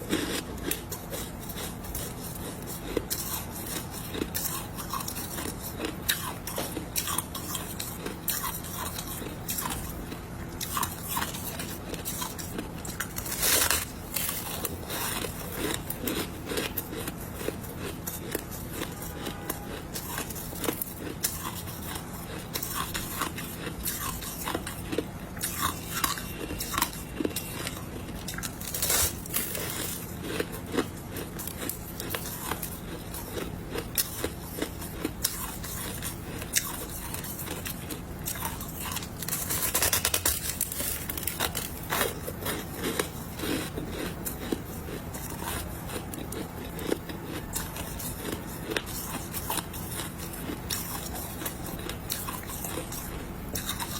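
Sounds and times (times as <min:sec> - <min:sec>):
ice being crunched and chewed: 0:00.0 - 0:53.9.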